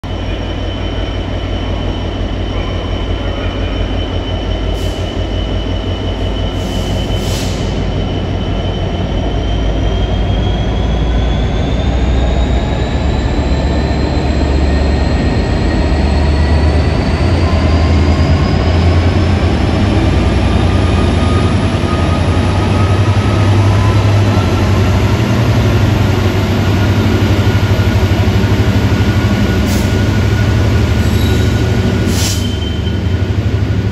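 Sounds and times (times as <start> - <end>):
diesel locomotive rumble: 0.0 - 33.9
locomotive whine rising in pitch: 0.1 - 33.9.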